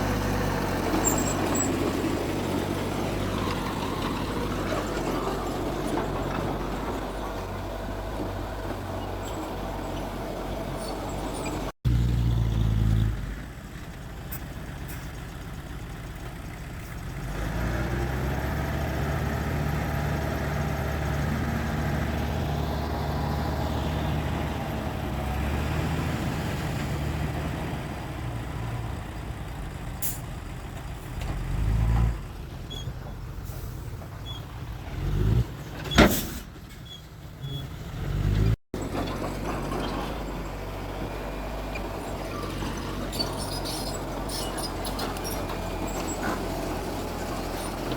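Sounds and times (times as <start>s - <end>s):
heavy diesel engines droning: 0.0s - 47.9s.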